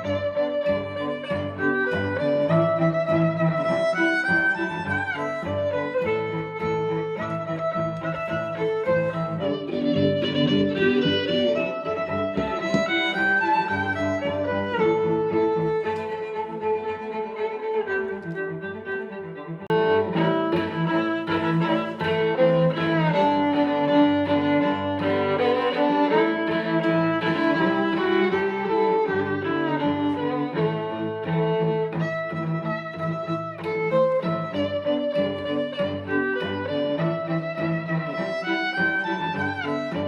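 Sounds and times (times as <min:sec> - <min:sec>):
music with bowed strings: 0:00.0 - 0:40.0.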